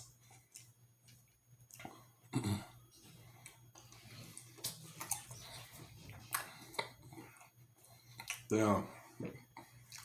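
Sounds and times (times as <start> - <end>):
chewing: 0.0 - 2.1, 3.0 - 10.0.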